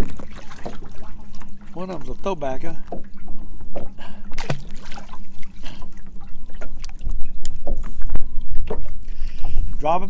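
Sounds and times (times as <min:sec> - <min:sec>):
water lapping at boat hull: 0:00.0 - 0:10.0.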